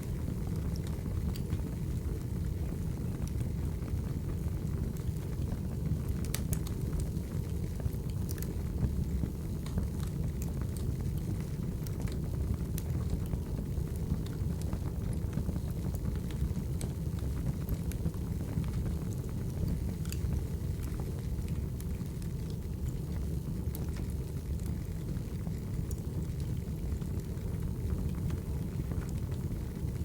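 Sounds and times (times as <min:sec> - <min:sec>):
fire crackles and pops: 0:00.0 - 0:30.0
wood fire rumbling: 0:00.0 - 0:30.0.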